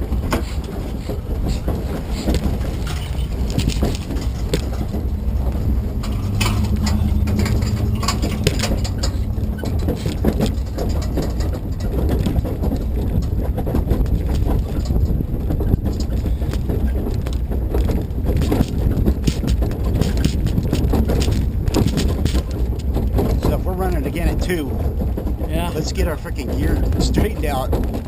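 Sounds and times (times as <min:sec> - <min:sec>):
deeper steady drone: 0:00.0 - 0:20.2, 0:21.0 - 0:27.8
engine running low rumble: 0:00.0 - 0:28.0
irregular knocks and rattles: 0:00.0 - 0:28.0.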